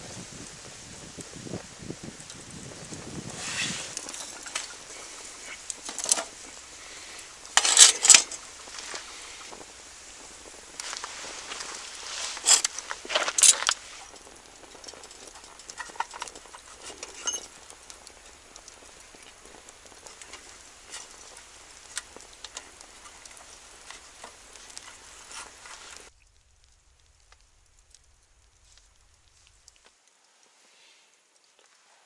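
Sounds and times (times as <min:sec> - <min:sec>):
faint steady hiss: 0:00.0 - 0:32.0
wood fire crackling and popping: 0:00.0 - 0:32.0.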